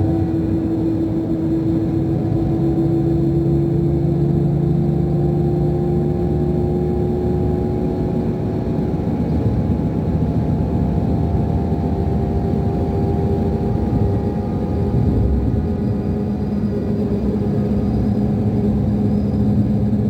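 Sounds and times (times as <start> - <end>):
diesel engine rumble inside coach: 0.0 - 20.0.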